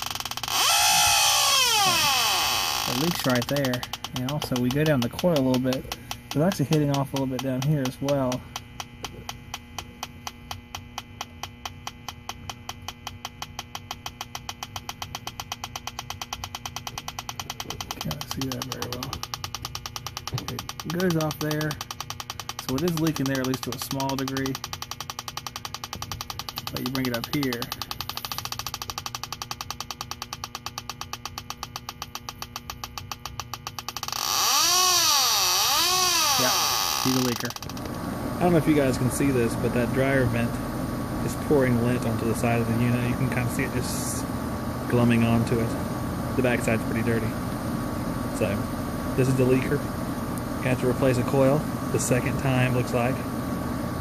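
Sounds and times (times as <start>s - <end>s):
leak detector ticking: 0.0s - 53.2s
faint steady hum: 0.0s - 54.0s.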